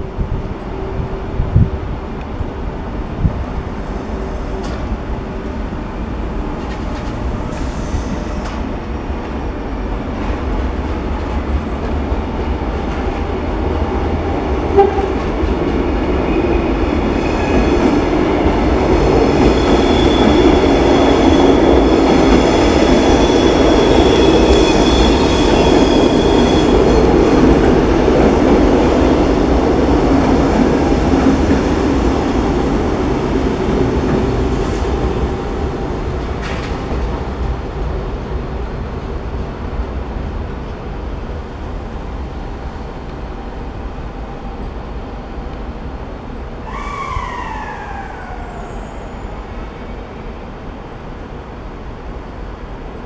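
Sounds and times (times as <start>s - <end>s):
train rumble with wheel clatter: 0.0s - 53.0s.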